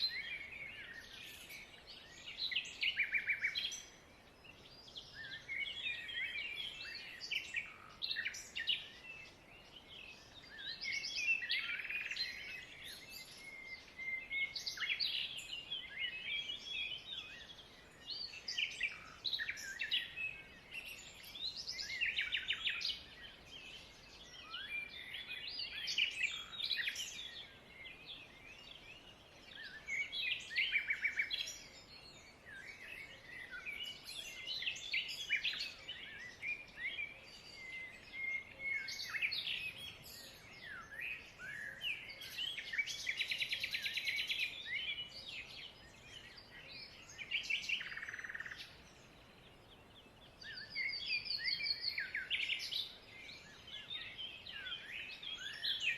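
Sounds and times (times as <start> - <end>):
flock of small birds chirping: 0.0 - 55.9.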